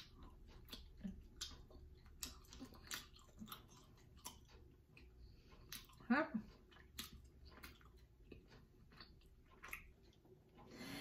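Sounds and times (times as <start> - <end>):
wet mouth chewing sounds: 0.0 - 10.8.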